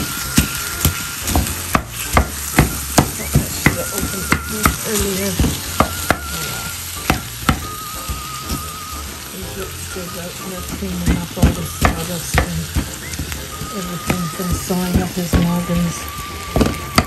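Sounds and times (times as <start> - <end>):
meat sizzling: 0.0 - 17.0.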